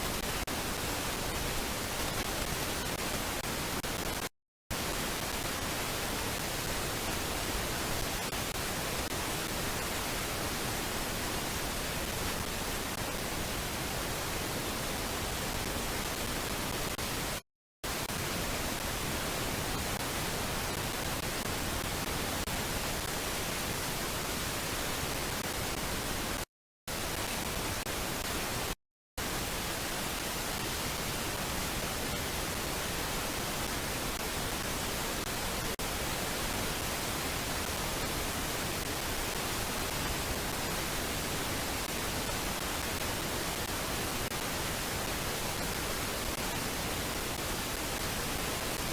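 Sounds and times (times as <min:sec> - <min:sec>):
static hiss: 0:00.0 - 0:48.9.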